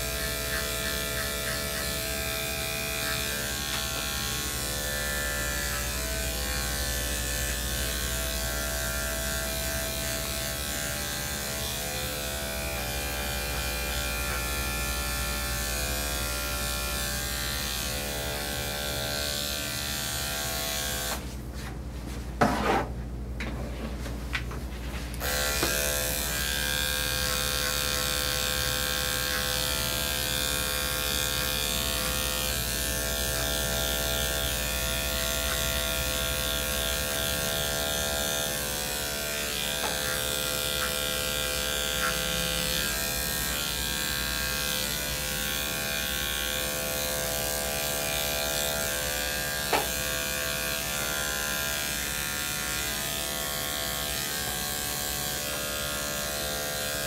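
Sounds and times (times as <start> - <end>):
electric clippers buzzing: 0.0 - 21.3, 25.1 - 57.0.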